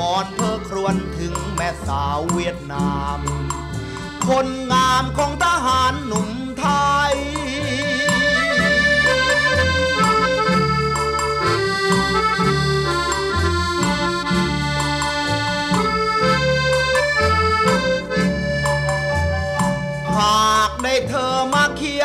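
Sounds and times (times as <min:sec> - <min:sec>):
instrumental melody with bass line: 0:00.0 - 0:22.0.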